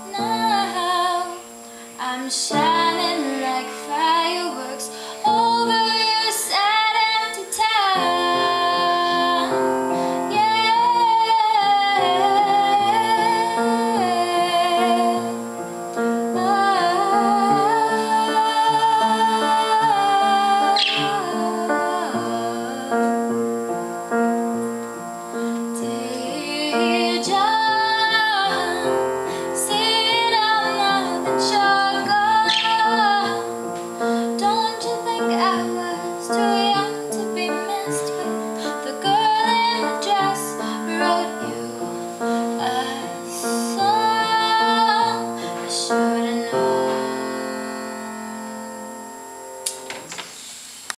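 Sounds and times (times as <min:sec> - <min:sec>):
woman singing slow melody: 0:00.0 - 0:49.4.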